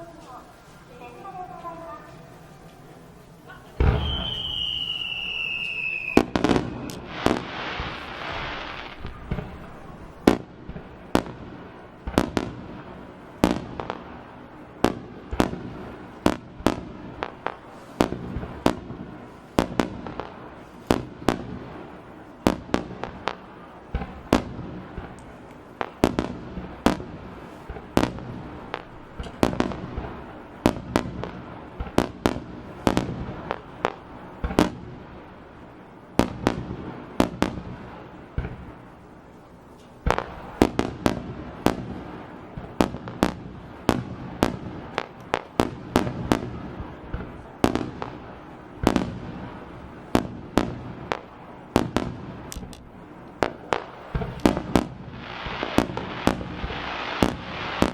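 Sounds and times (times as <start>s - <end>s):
fireworks bangs: 0.0s - 57.9s
fireworks crackling hiss: 0.0s - 57.9s.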